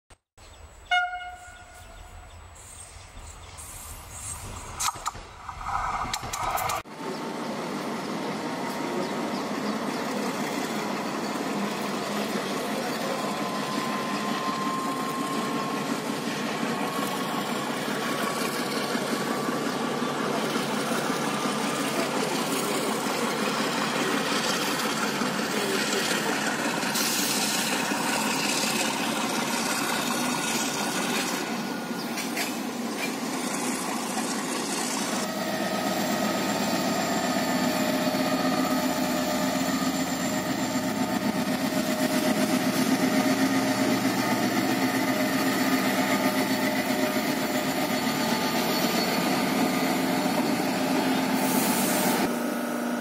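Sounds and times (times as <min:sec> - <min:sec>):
diesel locomotive engine running: 0:00.6 - 0:53.0.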